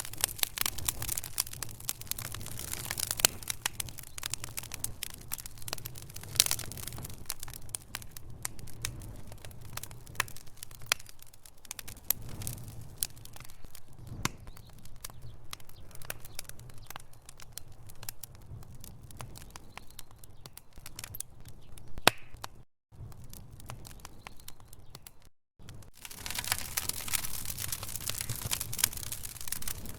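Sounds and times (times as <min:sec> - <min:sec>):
logs crackling and popping: 0:00.0 - 0:29.9.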